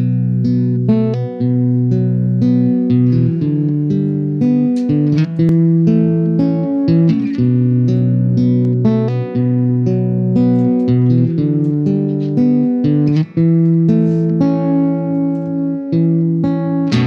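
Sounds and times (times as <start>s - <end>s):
guitar and keyboard riff: 0.0s - 17.0s.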